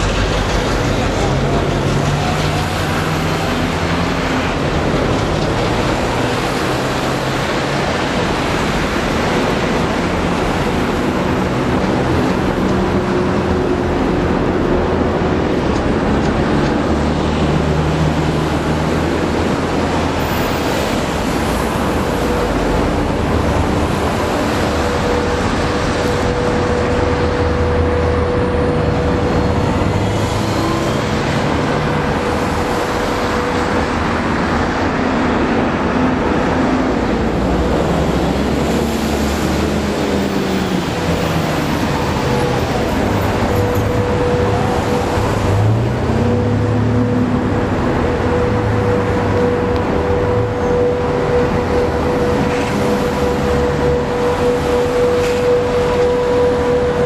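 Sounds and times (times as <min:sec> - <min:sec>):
diesel locomotive engines running: 0:00.0 - 0:57.0
steady whine: 0:00.0 - 0:57.0.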